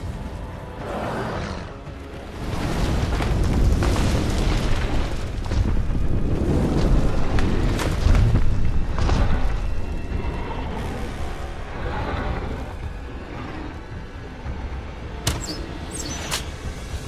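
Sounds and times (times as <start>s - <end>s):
low rumble of fire: 0.0s - 15.4s
fire crackling: 0.0s - 17.0s.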